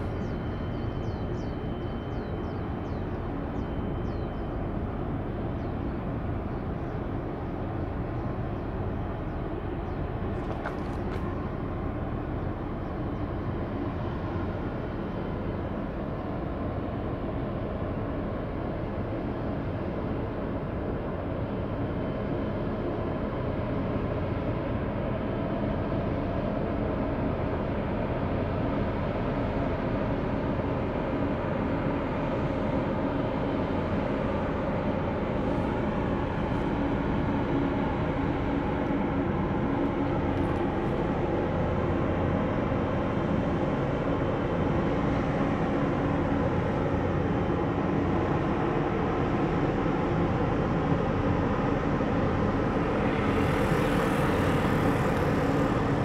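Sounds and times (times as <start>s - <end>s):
ship engine drone: 0.0s - 56.0s.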